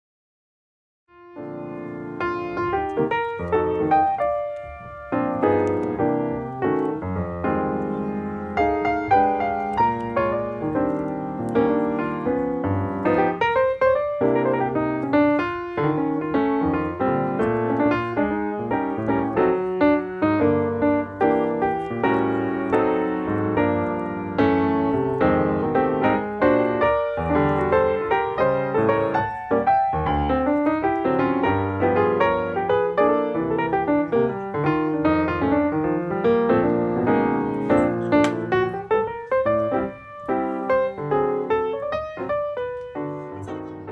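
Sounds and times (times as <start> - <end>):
background piano music: 1.2 - 43.9.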